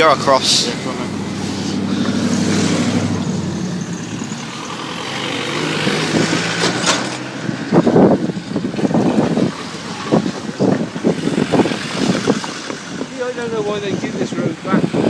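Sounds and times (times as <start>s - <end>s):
vehicle engines passing: 0.0s - 15.0s
wind buffeting microphone: 0.0s - 15.0s.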